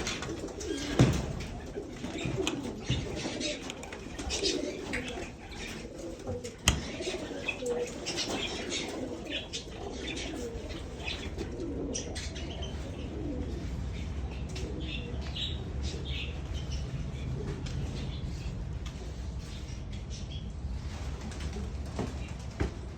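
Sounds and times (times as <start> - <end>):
parakeets chirping: 0.0 - 20.5
pigeons cooing: 0.0 - 22.9.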